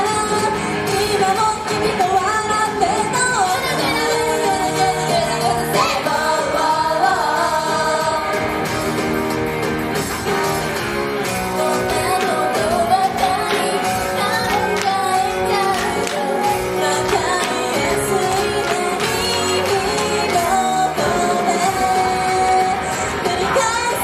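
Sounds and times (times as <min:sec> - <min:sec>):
women singing pop song: 0:00.0 - 0:08.8, 0:11.3 - 0:24.0
full instrumental backing: 0:00.0 - 0:24.0.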